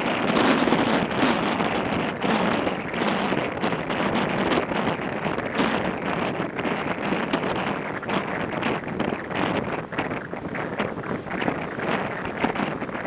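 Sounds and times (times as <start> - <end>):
motorcycle riding noise: 0.0 - 13.0
wind buffeting microphone: 0.0 - 13.0.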